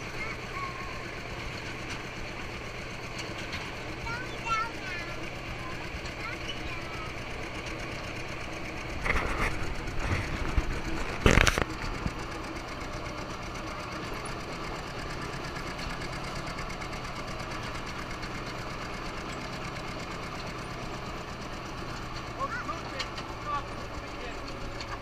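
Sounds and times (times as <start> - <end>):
tractor engine droning: 0.0 - 25.0.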